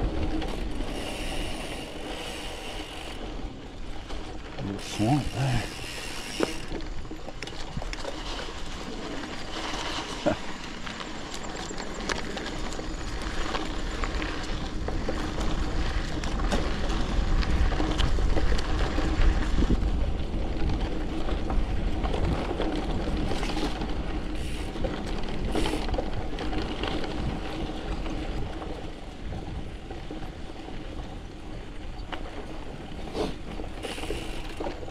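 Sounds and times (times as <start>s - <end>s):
bike rattling and knocking: 0.0s - 10.0s, 11.3s - 32.9s
wind rumble on microphone: 0.0s - 34.9s.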